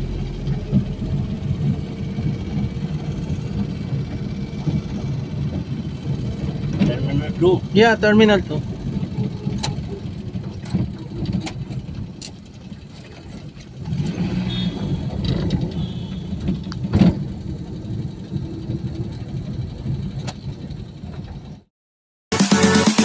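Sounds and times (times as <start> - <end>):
vehicle road and engine rumble: 0.0 - 21.7.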